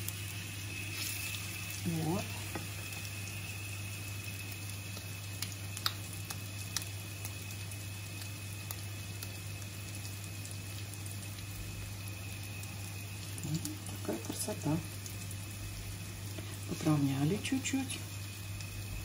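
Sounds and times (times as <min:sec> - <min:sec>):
cutlets sizzling in pan: 0:00.0 - 0:19.0.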